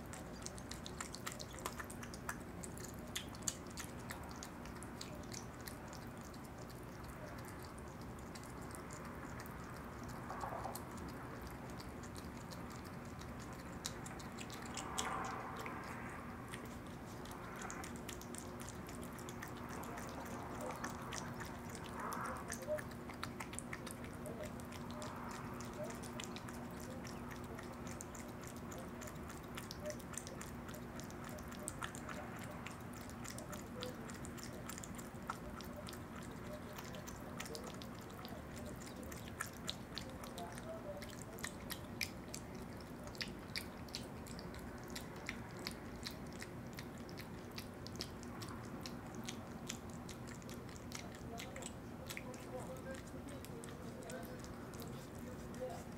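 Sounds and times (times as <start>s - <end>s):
animal licking and chewing: 0.0s - 55.9s
animal slurping: 0.0s - 55.9s.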